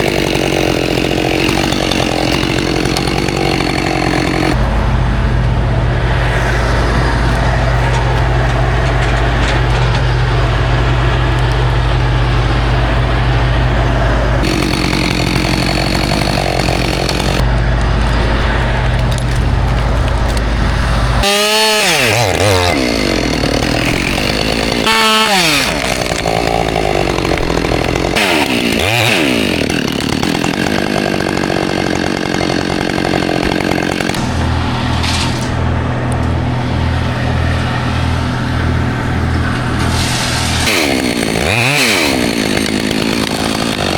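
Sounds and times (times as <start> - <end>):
chainsaw running: 0.0 - 43.9.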